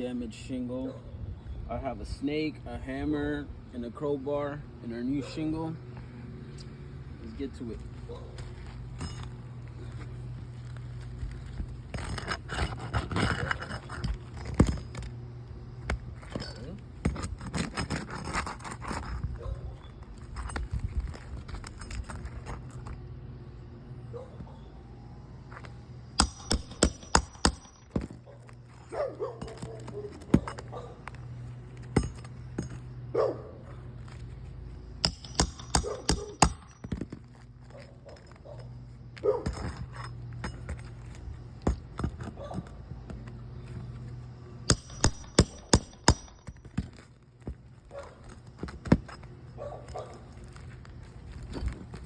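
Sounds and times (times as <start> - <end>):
steady low hum: 5.8 - 52.0.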